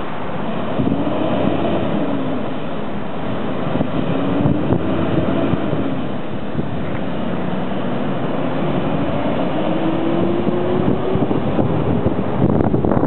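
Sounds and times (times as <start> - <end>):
fire engine driving past: 0.0 - 13.0.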